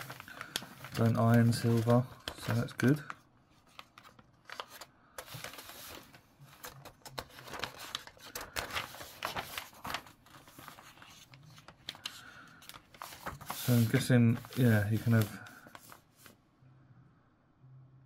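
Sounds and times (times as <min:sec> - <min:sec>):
paper rustling and crackling: 0:00.0 - 0:16.4.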